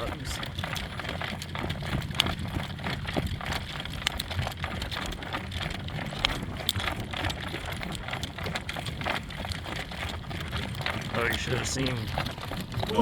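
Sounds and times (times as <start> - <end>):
horse-drawn cart rumbling: 0.0 - 13.0.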